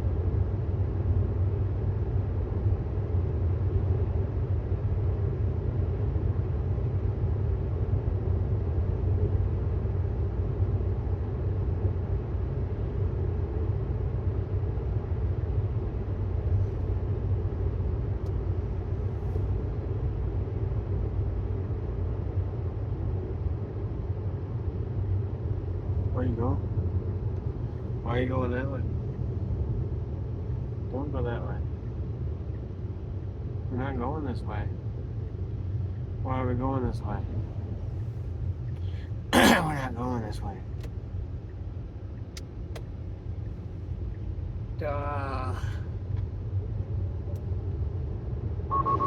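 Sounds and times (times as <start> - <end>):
road and tyre rumble in car: 0.0 - 49.0.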